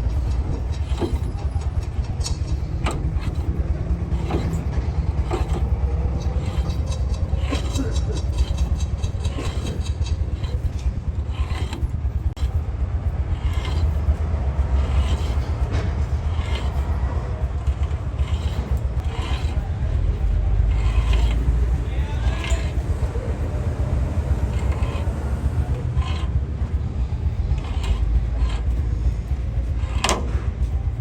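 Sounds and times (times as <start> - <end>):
hand tool scraping metal: 0.0 - 31.0
steady low rumble: 0.0 - 31.0.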